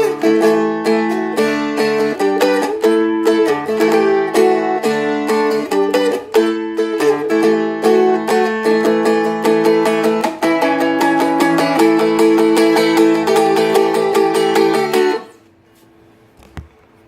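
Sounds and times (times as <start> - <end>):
acoustic guitar strumming: 0.0 - 15.5.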